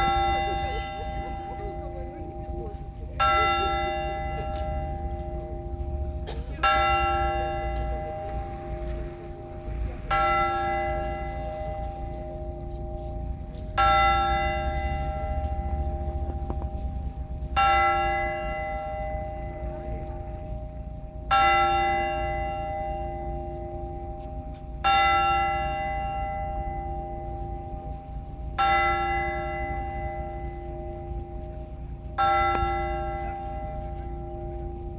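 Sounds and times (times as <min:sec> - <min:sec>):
church bell tolling: 0:00.0 - 0:34.9.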